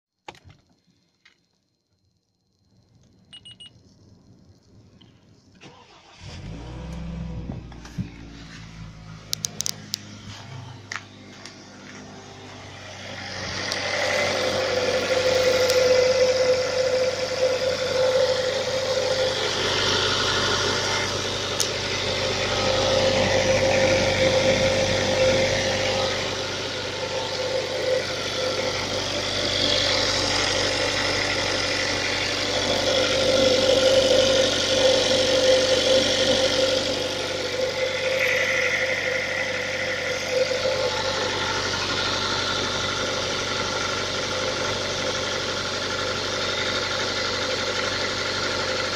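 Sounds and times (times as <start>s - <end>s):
car engine idling with knock: 7.3s - 48.9s.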